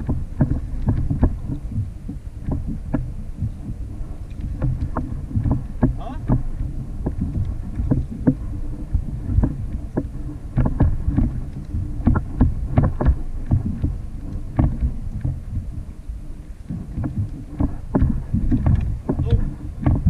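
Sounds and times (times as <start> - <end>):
water lapping against kayak hull: 0.0 - 20.0
wind rumble on microphone: 0.0 - 20.0.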